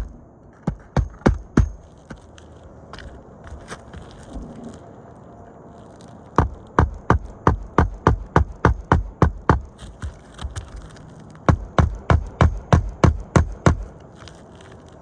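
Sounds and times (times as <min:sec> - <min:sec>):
hammer nailing roof shingles: 0:00.0 - 0:04.4, 0:06.4 - 0:14.4.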